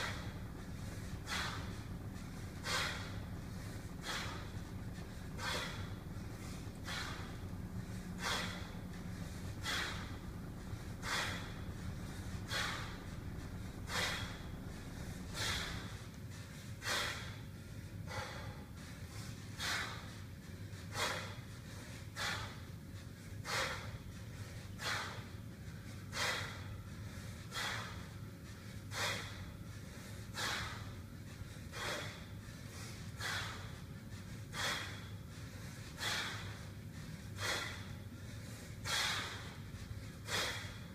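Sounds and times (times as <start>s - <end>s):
forceful breaths: 0.0s - 40.9s.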